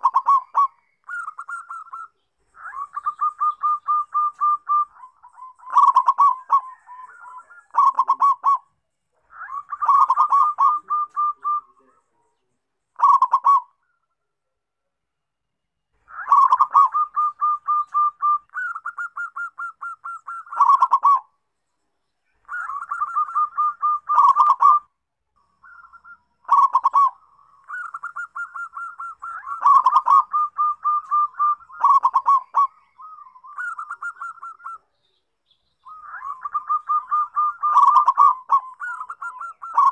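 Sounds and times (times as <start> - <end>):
dove cooing: 0.0 - 12.2, 13.0 - 13.8, 16.0 - 21.3, 22.4 - 24.9, 25.6 - 34.9, 35.8 - 39.9.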